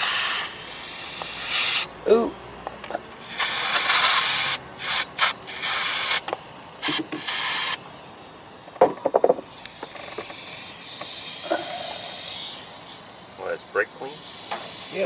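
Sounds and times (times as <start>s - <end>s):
pressurized spray hissing: 0.0s - 8.4s, 9.5s - 15.0s.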